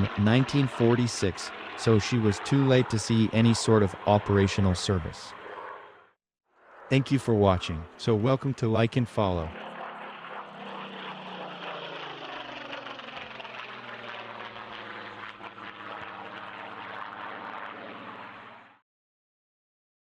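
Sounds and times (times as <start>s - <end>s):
propeller aircraft engine in flight: 0.0s - 18.8s.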